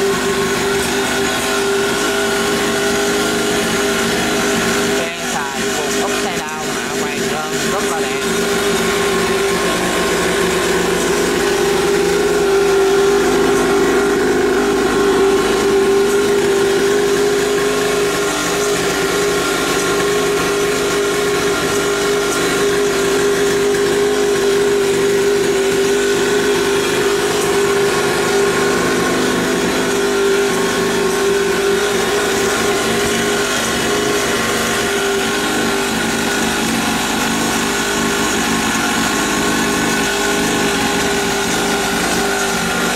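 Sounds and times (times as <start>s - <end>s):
small dirt bike engine buzzing: 0.0s - 42.9s.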